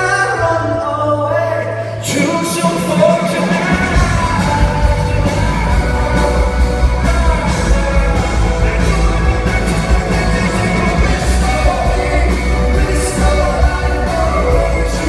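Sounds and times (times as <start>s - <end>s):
live rock band and singer: 0.0s - 15.0s
drums and bass: 2.0s - 15.0s
crowd yelling: 2.3s - 15.0s.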